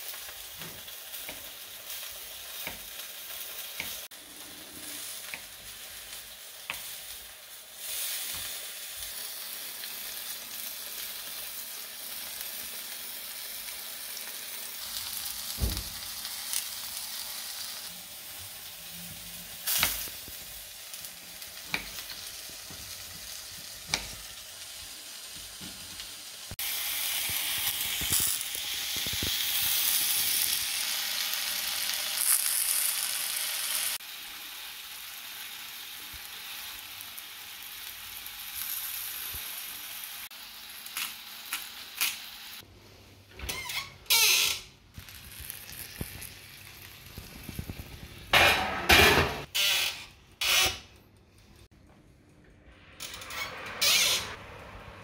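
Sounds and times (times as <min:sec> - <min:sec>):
mushrooms sizzling in butter: 0:00.0 - 0:42.6, 0:44.3 - 0:48.4.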